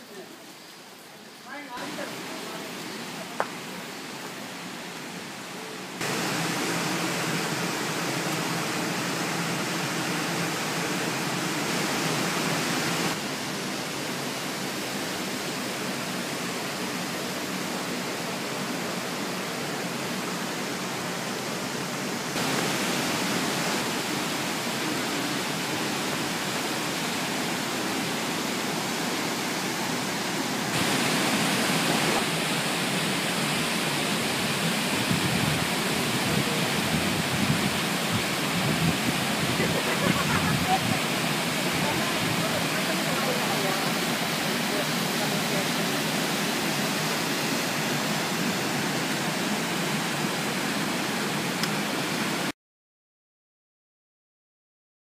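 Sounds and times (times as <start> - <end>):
waterfall rushing: 0.0 - 52.5.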